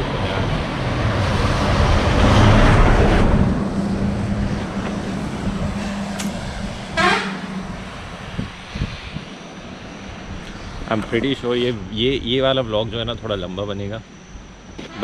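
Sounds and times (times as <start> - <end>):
vehicle passing with low hum: 0.0 - 14.7.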